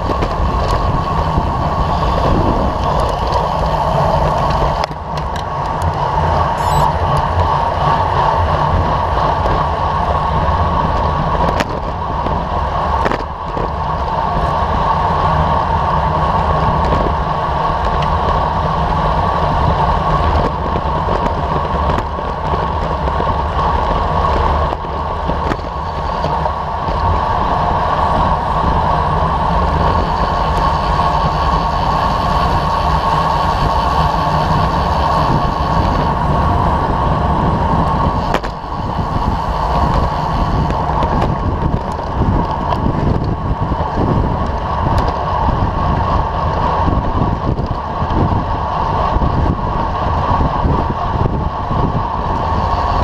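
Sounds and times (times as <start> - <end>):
road rumble: 0.0 - 53.0
wind rush: 0.0 - 53.0.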